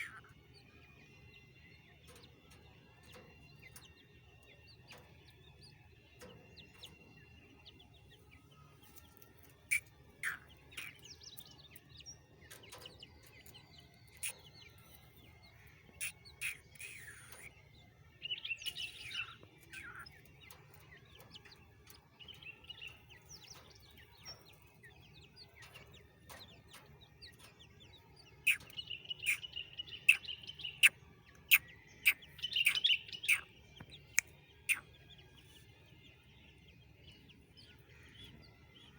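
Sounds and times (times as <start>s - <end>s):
chicks chirping: 0.0s - 38.9s.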